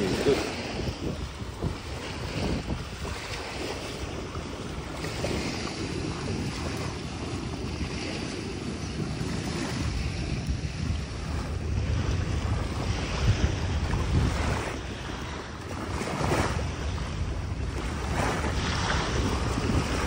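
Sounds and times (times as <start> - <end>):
waves splashing around kayak: 0.0 - 20.0
wind buffeting microphone: 0.0 - 20.0.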